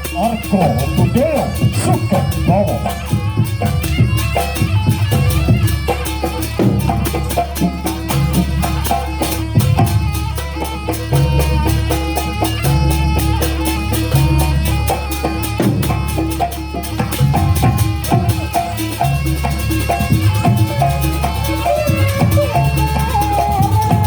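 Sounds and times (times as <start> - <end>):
rapid percussion strokes: 0.0 - 24.0
stepped melody over drone: 0.0 - 24.0.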